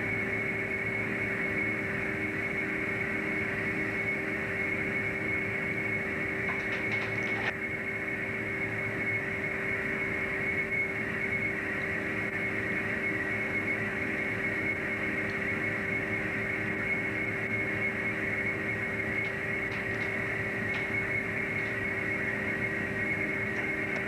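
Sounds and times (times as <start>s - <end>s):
boat machinery drone: 0.0s - 24.0s
thin high whine: 0.0s - 24.0s.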